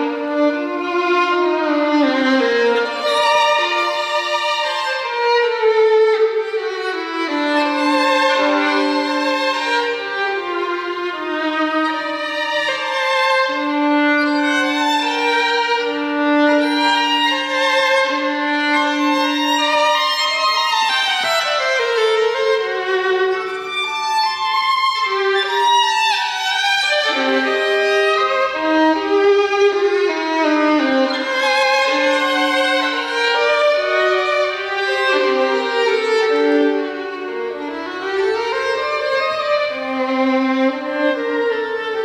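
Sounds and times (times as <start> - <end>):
solo violin: 0.0 - 42.0.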